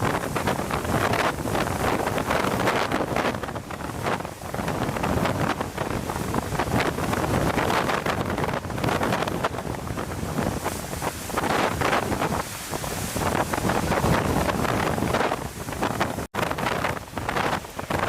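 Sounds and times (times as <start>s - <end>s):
strong wind gusting on microphone: 0.0s - 18.0s.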